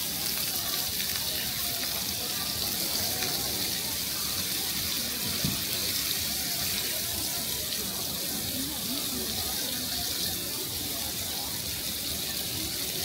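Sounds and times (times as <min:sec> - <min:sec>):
faint voices: 0:00.0 - 0:13.0.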